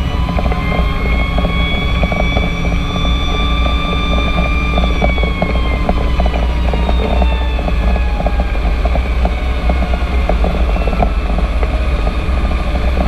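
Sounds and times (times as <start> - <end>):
diesel engine running: 0.0 - 13.0
siren wailing: 0.0 - 13.0.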